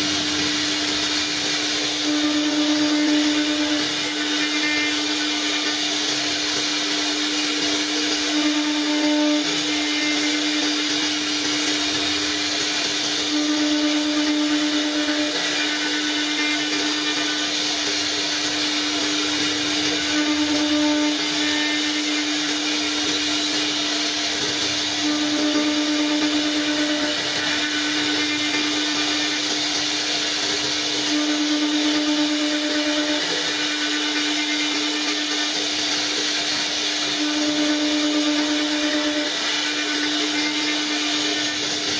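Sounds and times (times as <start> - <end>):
wood router whining: 0.0 - 41.9.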